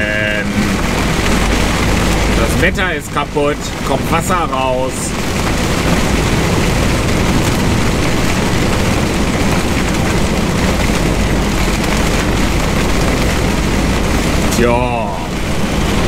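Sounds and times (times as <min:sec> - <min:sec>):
heavy rain on truck cab: 0:00.0 - 0:16.0.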